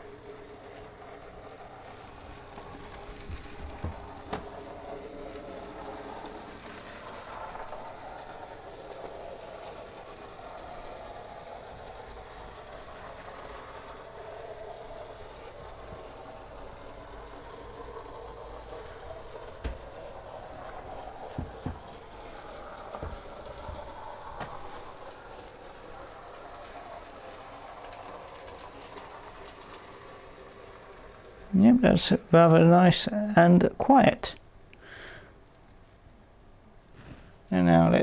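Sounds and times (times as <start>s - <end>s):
model train wheels whirring on track: 0.0s - 38.0s.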